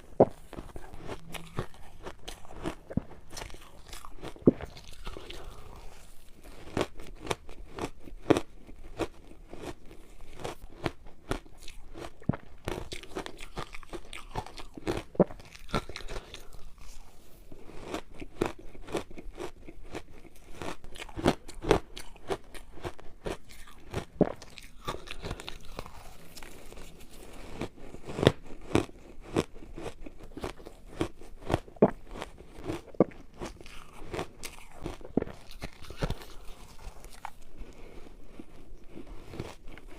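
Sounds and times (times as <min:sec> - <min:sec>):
ice ball being chewed: 0:00.0 - 0:39.9.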